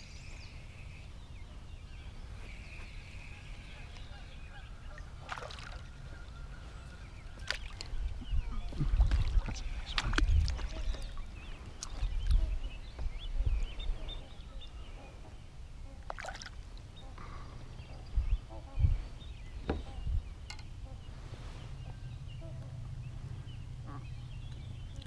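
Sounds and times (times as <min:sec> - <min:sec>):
faint birds calling: 0:00.0 - 0:25.0.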